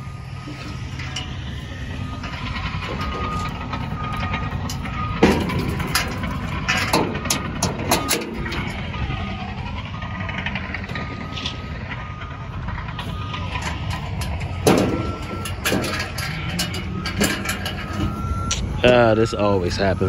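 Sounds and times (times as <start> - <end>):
low engine rumble: 0.0 - 20.0
reversing alarm beeping: 0.0 - 20.0.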